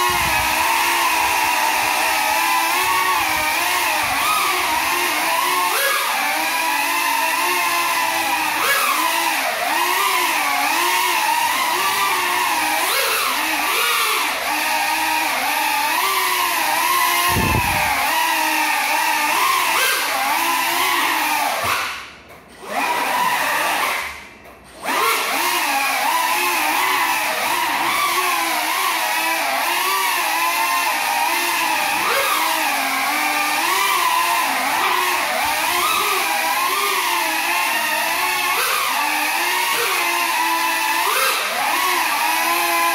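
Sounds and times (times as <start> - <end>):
drone propellers whining: 0.0 - 42.9.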